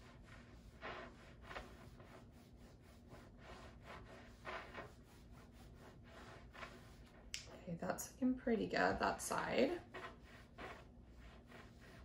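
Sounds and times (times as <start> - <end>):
iron rubbing over fabric: 0.0 - 12.0.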